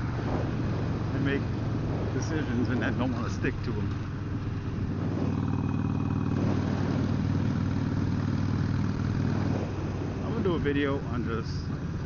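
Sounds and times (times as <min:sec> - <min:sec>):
motorcycle engine running at low speed: 0:00.0 - 0:12.0.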